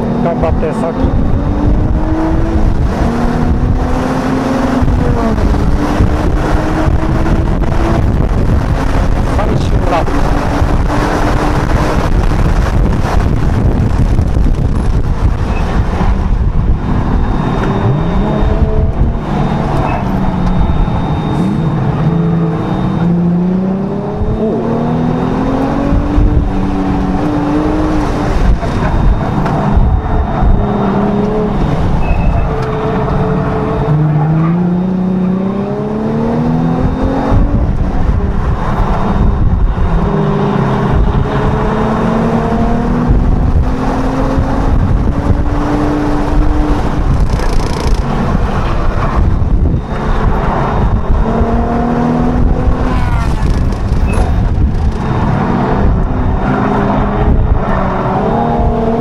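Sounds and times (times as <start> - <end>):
car engine revving: 0.0 - 59.0
road and tyre noise: 0.0 - 59.0.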